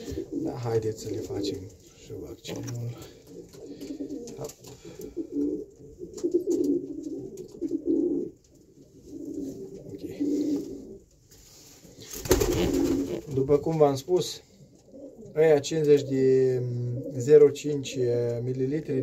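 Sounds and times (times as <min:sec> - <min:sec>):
pigeons cooing: 0:00.0 - 0:13.6, 0:14.2 - 0:18.6.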